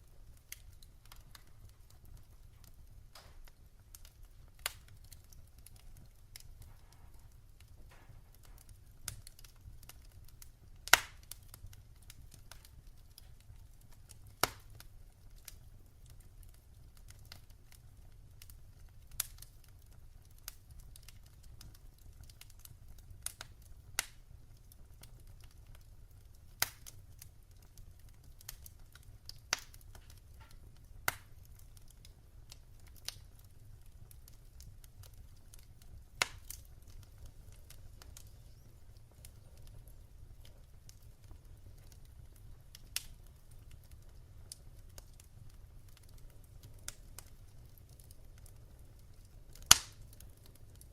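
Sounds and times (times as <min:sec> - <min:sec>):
fire crackling with pops: 0:00.0 - 0:50.9.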